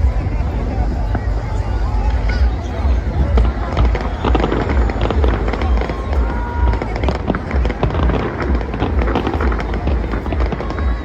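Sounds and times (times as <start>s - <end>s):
low rumble: 0.0s - 11.0s
fireworks cracking and popping: 2.1s - 11.0s.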